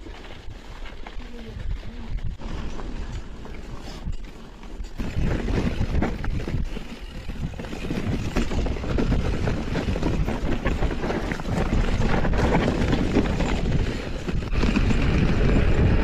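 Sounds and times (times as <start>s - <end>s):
bike tyres rumbling on loose ground: 0.0s - 16.0s
bike knocks and rattles: 2.2s - 16.0s.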